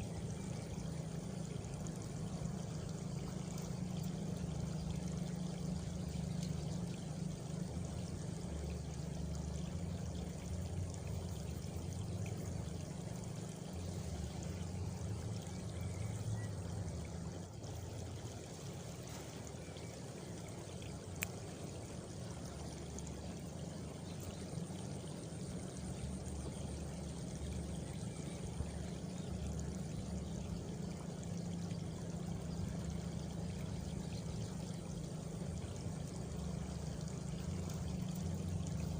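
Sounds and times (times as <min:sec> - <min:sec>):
faint insect trill: 0:00.0 - 0:38.9
running water rushing: 0:00.0 - 0:38.9.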